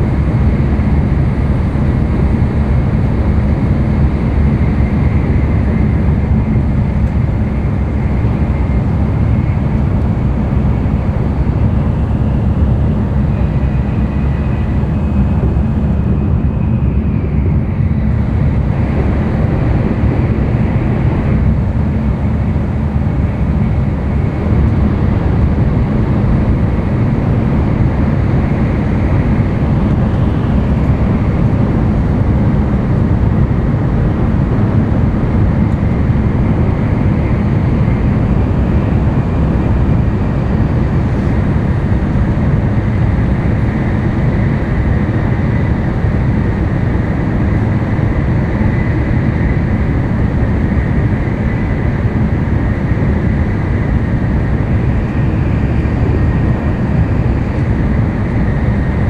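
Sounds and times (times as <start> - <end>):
air rushing past train: 0.0 - 59.0
train wheels rumbling on track: 0.0 - 59.0.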